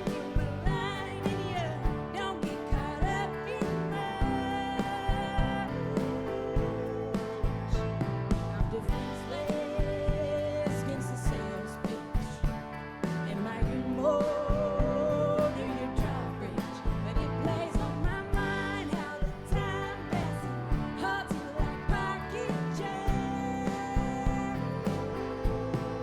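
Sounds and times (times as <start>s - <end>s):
drums beating: 0.0s - 26.0s
rock band playing: 0.0s - 26.0s.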